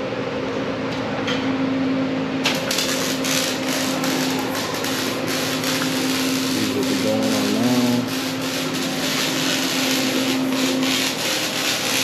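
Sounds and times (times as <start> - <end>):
shop machinery humming: 0.0 - 12.0.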